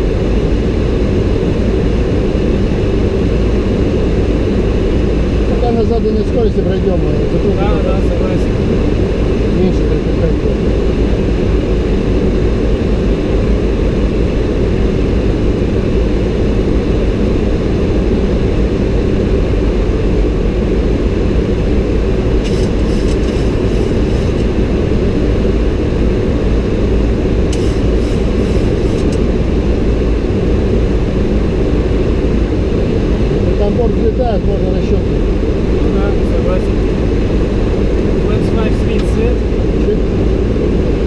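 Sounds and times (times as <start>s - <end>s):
airplane cockpit rushing noise: 0.0s - 41.0s.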